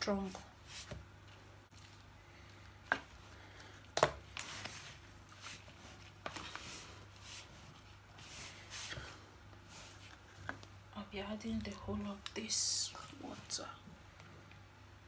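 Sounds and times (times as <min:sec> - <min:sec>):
hand mixing crumbly dough: 0:00.0 - 0:14.6.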